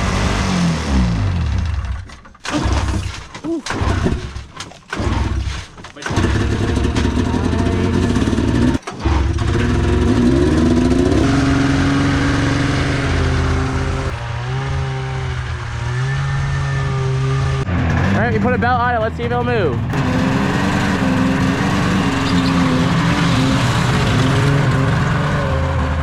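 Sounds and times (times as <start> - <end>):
snowmobile engine revving and idling: 0.0 - 3.1, 3.7 - 26.0.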